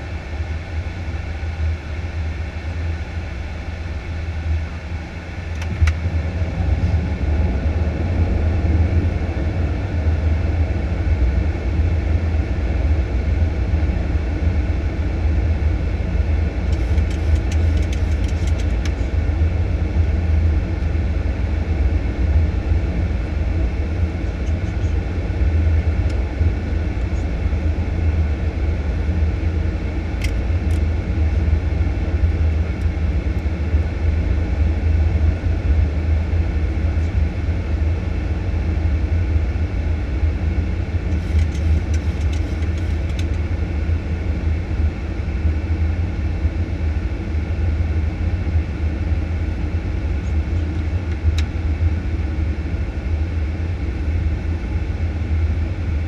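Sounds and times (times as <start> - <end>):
airflow and engine rumble: 0.0 - 56.0.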